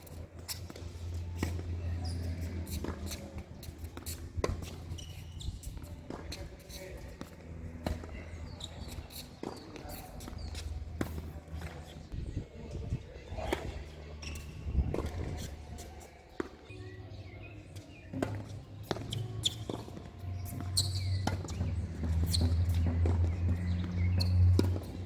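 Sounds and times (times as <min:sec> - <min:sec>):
tennis ball hit and bouncing: 0:00.0 - 0:12.2, 0:13.4 - 0:16.8, 0:17.4 - 0:25.0.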